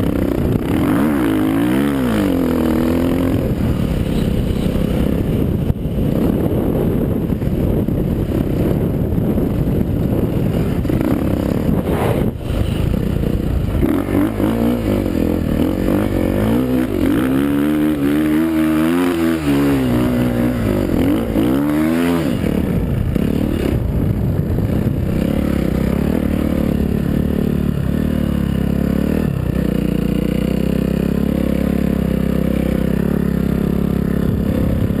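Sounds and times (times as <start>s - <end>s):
motocross bike engine revving: 0.0s - 5.4s, 10.2s - 35.0s.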